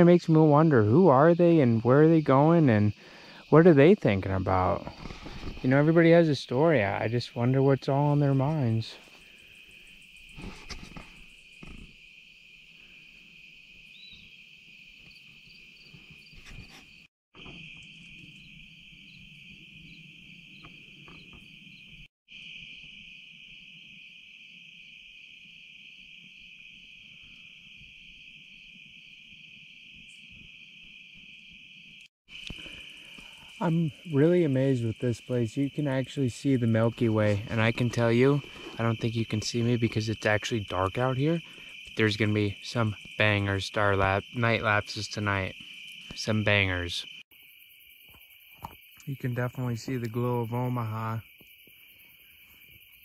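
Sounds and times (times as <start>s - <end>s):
crickets droning: 0.0s - 53.0s
insect chirp: 0.0s - 53.0s.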